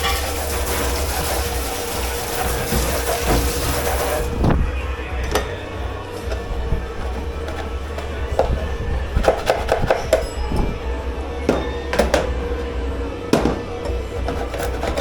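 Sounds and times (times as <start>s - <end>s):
steady hum and low rumble: 0.0s - 15.0s.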